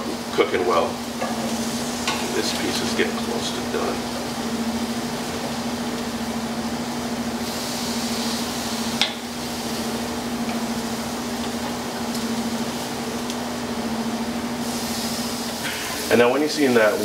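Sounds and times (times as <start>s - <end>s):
chicken sizzling on a grill: 0.0s - 17.0s
exhaust hood humming: 0.0s - 17.0s.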